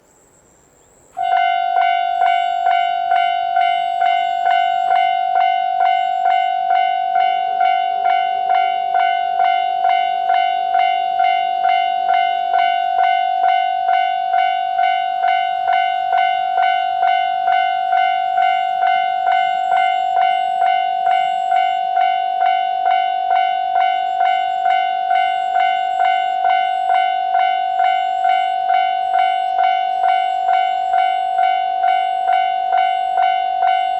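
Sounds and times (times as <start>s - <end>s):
level-crossing alarm bell ringing: 1.2s - 33.9s.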